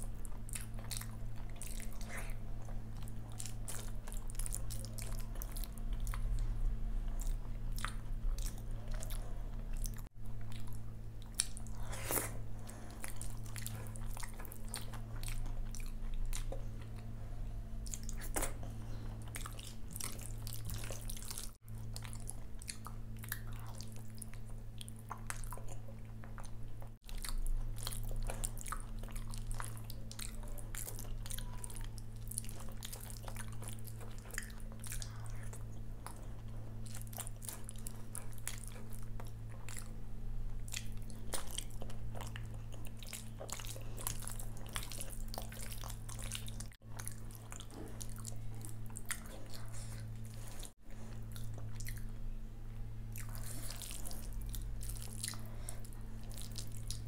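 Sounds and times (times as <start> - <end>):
wet chewing and biting: 0.0 - 17.1, 17.8 - 52.2, 53.1 - 57.0
low steady hum: 0.0 - 57.0.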